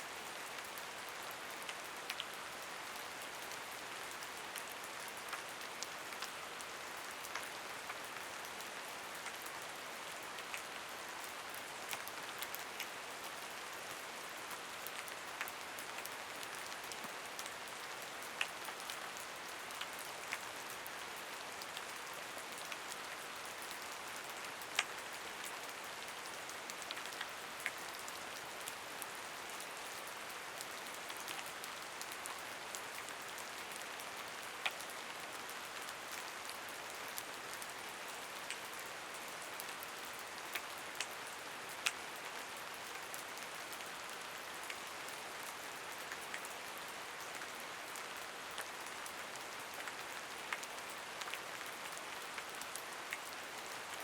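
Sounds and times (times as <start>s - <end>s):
rain pattering: 0.1s - 54.0s.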